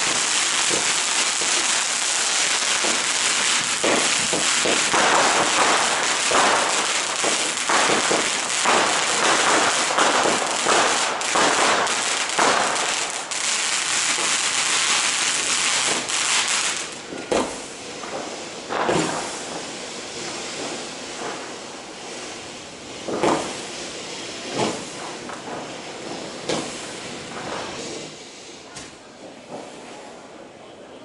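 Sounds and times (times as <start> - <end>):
fireworks cracking and banging: 0.0 - 30.7.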